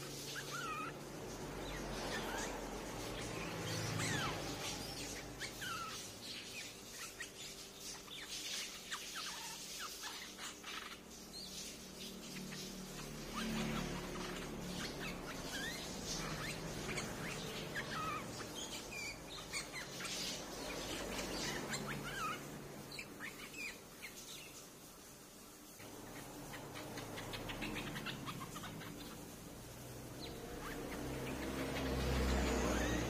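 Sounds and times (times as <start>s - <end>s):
bulbuls chirping: 0.0s - 33.0s.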